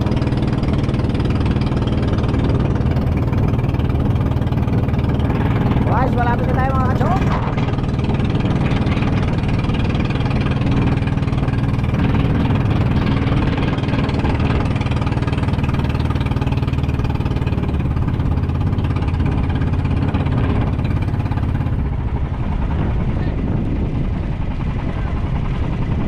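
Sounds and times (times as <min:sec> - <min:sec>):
small boat engine droning: 0:00.0 - 0:26.0.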